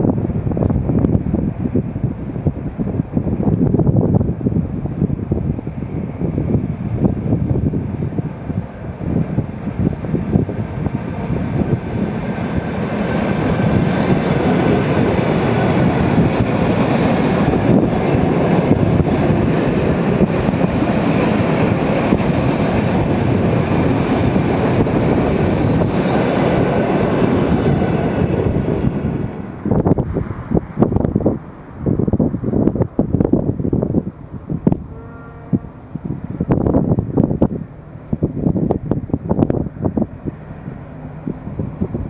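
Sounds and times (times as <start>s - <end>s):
train wheels on rails: 0.0s - 42.0s
wind buffeting microphone: 0.0s - 42.0s.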